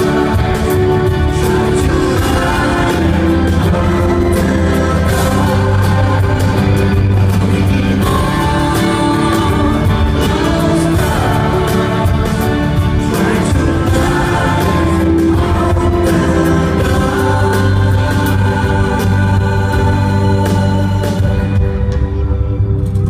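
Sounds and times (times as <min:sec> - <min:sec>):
man singing into microphone: 0:00.0 - 0:21.9
musical backing: 0:00.0 - 0:23.0.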